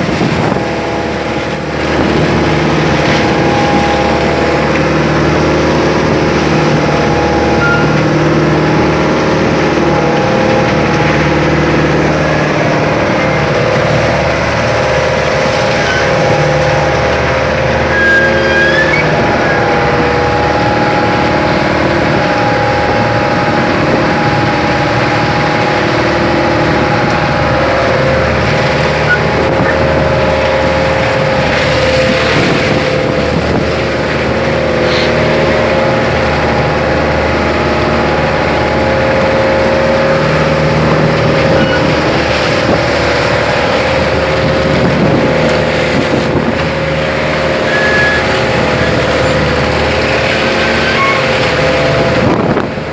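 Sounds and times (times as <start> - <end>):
boat engine running: 0.0 - 52.9.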